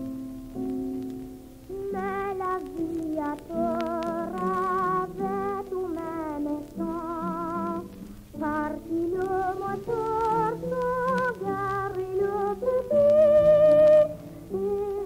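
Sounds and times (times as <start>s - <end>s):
piano accompaniment: 0.0s - 15.0s
boy singing with vibrato: 1.7s - 15.0s.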